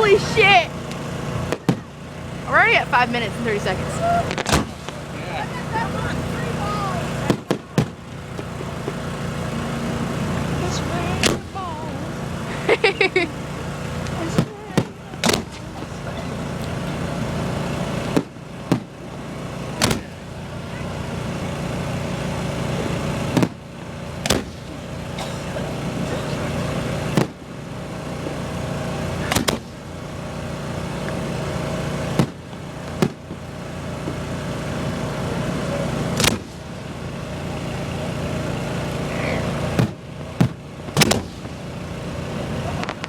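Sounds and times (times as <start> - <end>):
fireworks bangs: 0.0 - 43.0
generator engine humming: 0.0 - 43.0.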